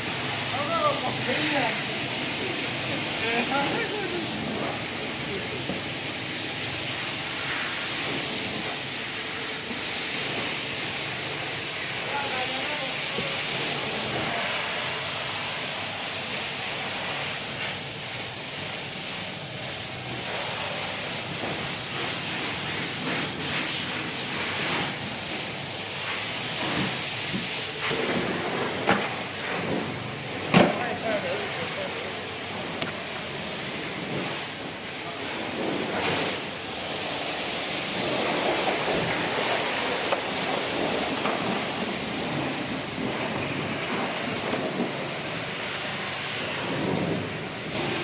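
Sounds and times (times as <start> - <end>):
pressure washer spraying water: 0.0 - 48.0.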